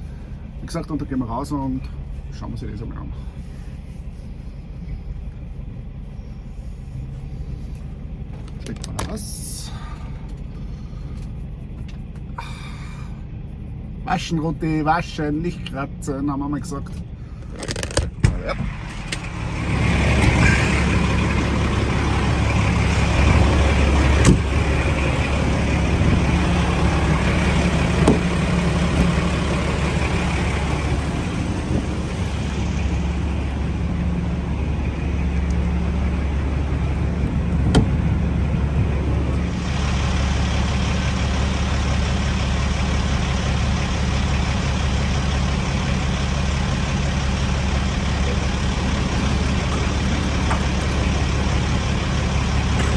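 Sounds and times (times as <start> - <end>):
truck engine idling: 0.0 - 52.9.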